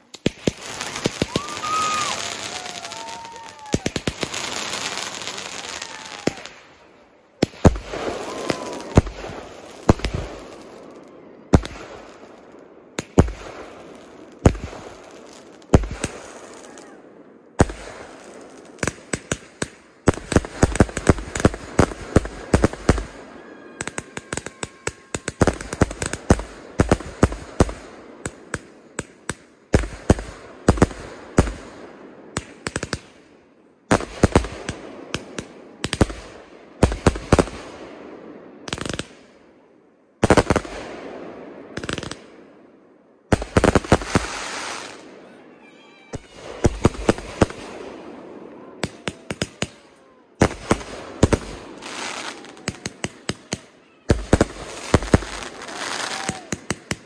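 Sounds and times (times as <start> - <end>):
fireworks bangs: 0.0 - 33.2, 33.9 - 39.4, 40.2 - 42.6, 43.3 - 57.0.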